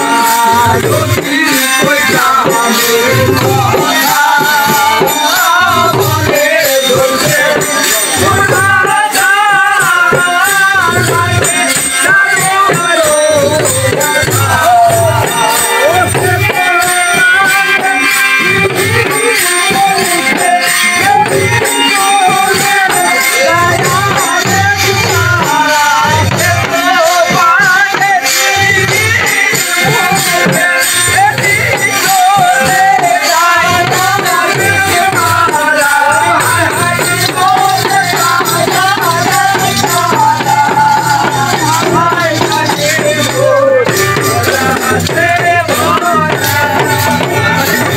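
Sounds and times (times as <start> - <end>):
rattling jingling percussion: 0.0 - 47.9.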